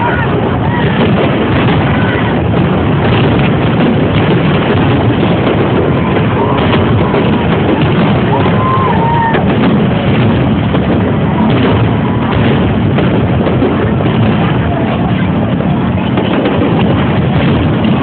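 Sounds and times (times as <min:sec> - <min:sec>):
crowd voices: 0:00.0 - 0:18.0
fireworks bangs and crackling: 0:00.0 - 0:18.0.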